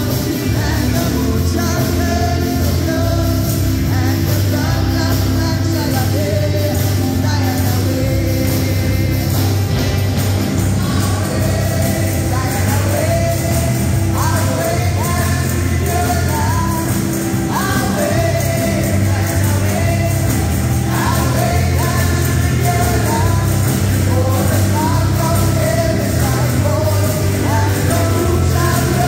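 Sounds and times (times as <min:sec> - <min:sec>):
amplified music with heavy bass: 0:00.0 - 0:29.0
choir singing gospel: 0:00.0 - 0:29.0.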